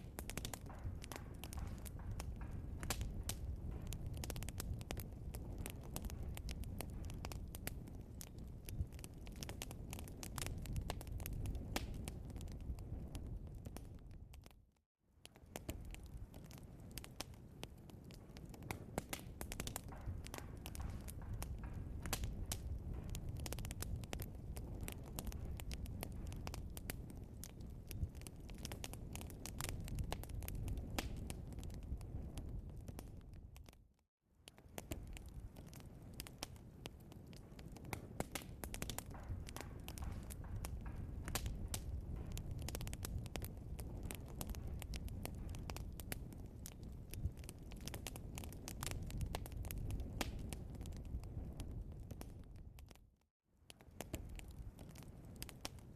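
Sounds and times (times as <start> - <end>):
log fire crackling and popping: 0.0 - 55.9
low rumble of flames: 0.0 - 55.9.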